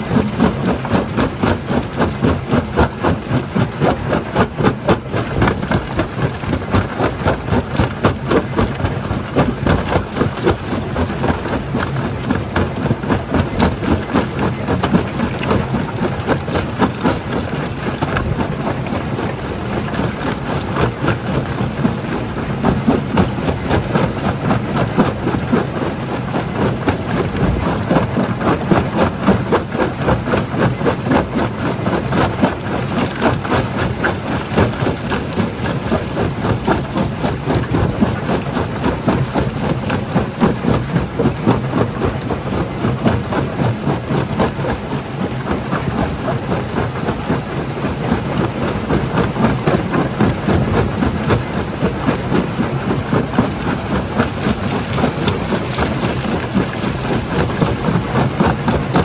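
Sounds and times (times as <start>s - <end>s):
rock crusher machinery pulsing: 0.0s - 59.0s.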